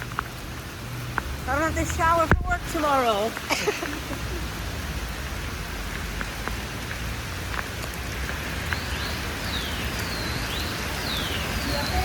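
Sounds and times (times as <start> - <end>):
heavy rain pouring: 0.0 - 12.0
raindrops pattering: 0.0 - 12.0.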